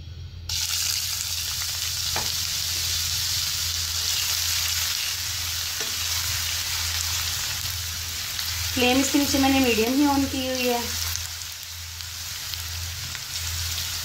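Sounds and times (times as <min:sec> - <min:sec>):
onion sizzling in oil: 0:00.5 - 0:14.0.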